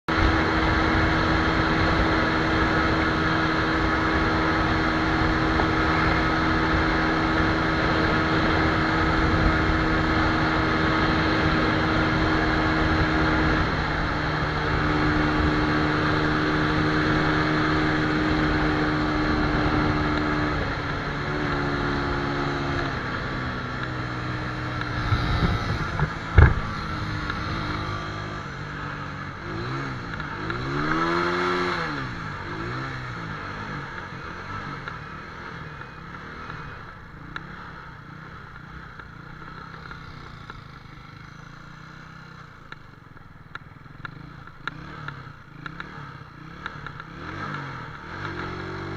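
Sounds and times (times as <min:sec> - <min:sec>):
motorcycle engine running: 0:00.1 - 0:48.9.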